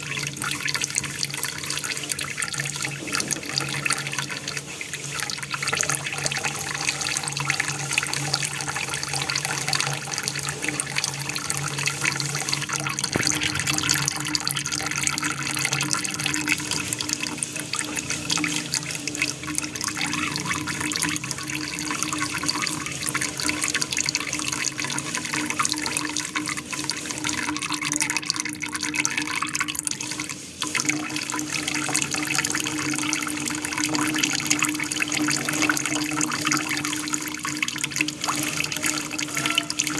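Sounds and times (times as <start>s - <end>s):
water splashing: 0.0s - 39.9s.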